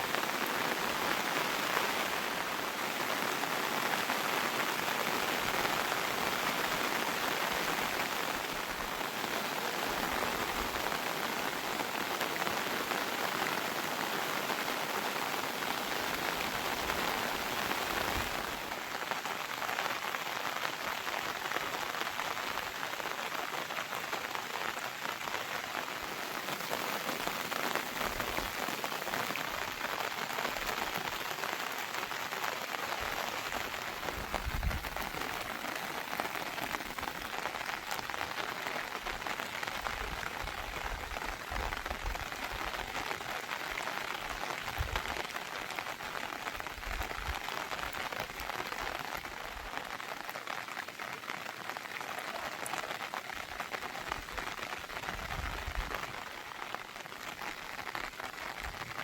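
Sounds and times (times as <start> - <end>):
heavy rain on surfaces: 0.0 - 59.0.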